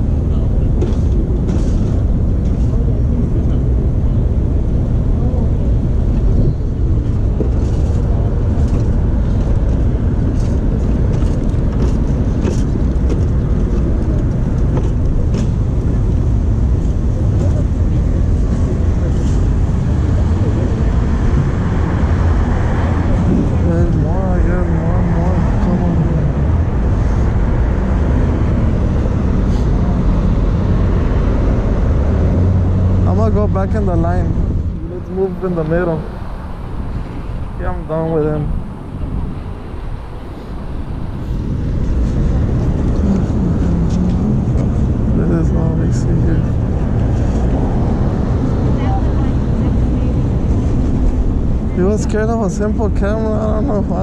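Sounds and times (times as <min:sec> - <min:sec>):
air buffeting microphone: 0:00.0 - 0:54.0
low rumble of street traffic: 0:00.0 - 0:54.0.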